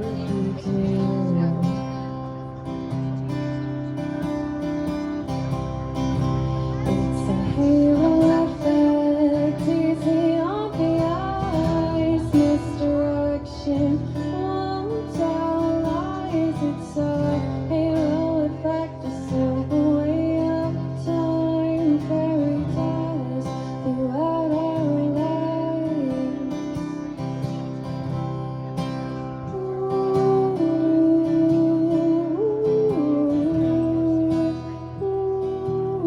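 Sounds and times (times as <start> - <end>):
strummed acoustic guitar: 0.0 - 36.0.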